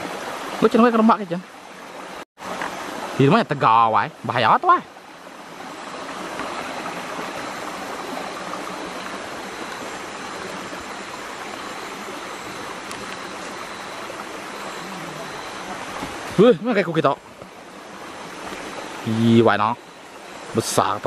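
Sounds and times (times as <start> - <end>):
forest stream rushing: 0.0 - 21.0.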